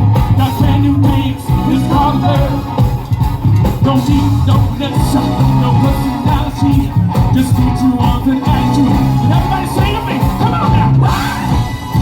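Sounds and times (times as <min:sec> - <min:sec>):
bass: 0:00.0 - 0:12.0
drums: 0:00.0 - 0:12.0
guitars: 0:00.0 - 0:12.0
keyboards: 0:00.0 - 0:12.0.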